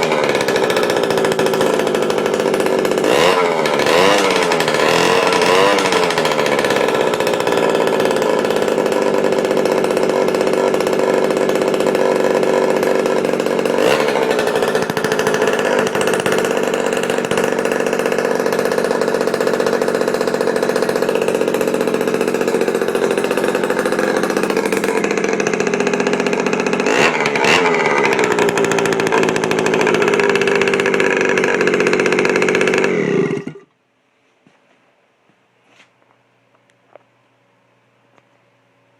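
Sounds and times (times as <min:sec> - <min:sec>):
two-stroke engine running: 0:00.0 - 0:33.7.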